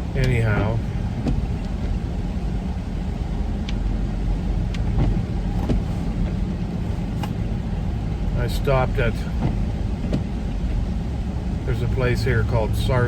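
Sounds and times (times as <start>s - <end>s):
road and engine noise in van: 0.0s - 13.0s.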